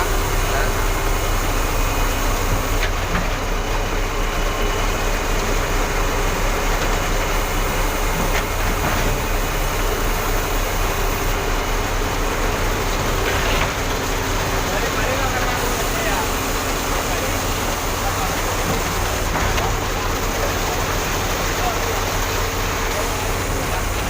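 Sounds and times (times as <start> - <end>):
diesel engine running under load: 0.0 - 24.0.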